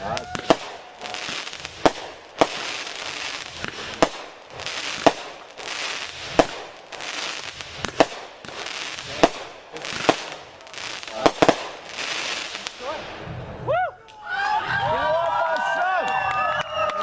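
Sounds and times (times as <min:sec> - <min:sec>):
fireworks bangs: 0:00.0 - 0:13.7
fireworks hissing crackle: 0:00.0 - 0:13.7.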